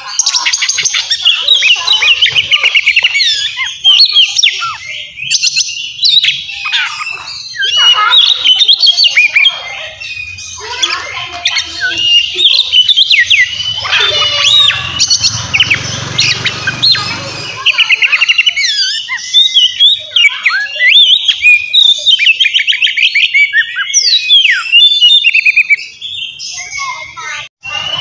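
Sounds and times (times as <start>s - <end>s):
bird singing whistles and trills: 0.0s - 28.0s.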